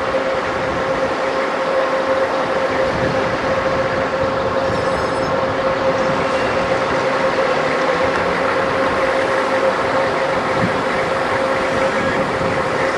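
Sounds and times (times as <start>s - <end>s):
armored vehicles driving past: 0.0s - 12.9s
high whine: 0.0s - 12.9s.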